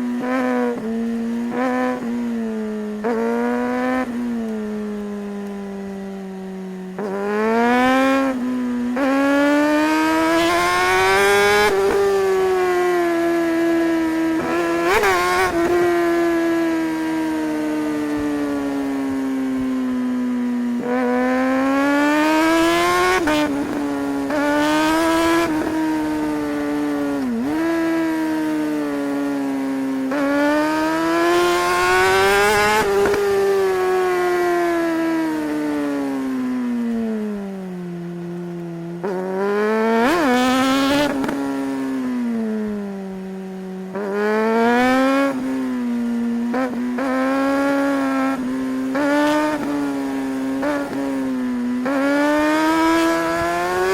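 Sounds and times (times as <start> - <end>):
gear changes: 0.0 - 53.9
motorcycle engine accelerating: 0.0 - 53.9.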